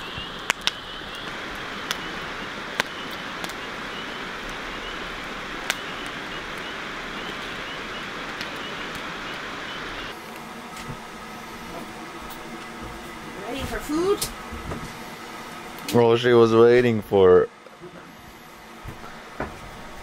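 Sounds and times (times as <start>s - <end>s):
outdoor night hiss: 0.0s - 20.0s.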